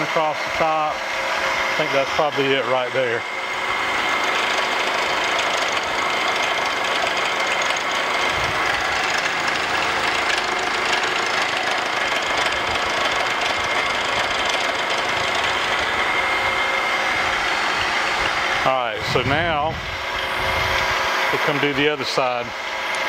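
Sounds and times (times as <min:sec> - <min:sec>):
milling machine cutting metal: 0:00.0 - 0:23.0.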